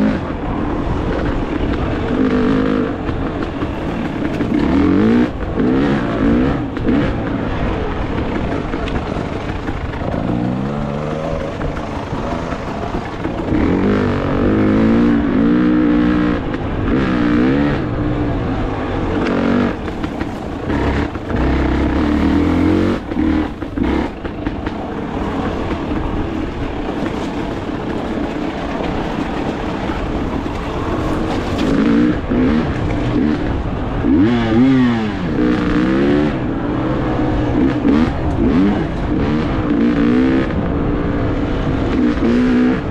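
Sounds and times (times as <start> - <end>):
dirt bike engine revving: 1.0 - 24.7, 31.6 - 42.9.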